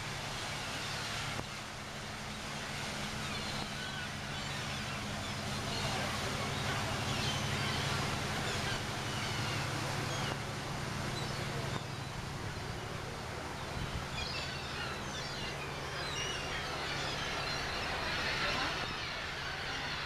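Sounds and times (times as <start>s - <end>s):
gulls calling: 0.0s - 20.0s
low engine hum: 0.0s - 20.0s.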